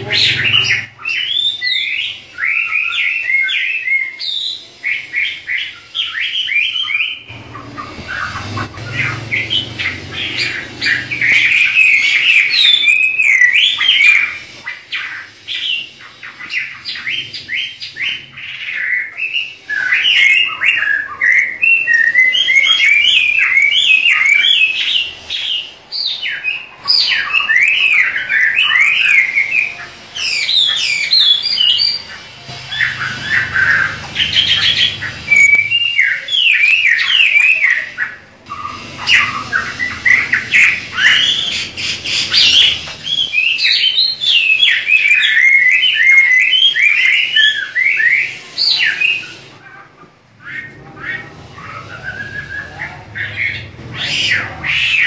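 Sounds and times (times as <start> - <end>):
bird singing whistled notes: 0.0 - 49.4, 50.4 - 55.0.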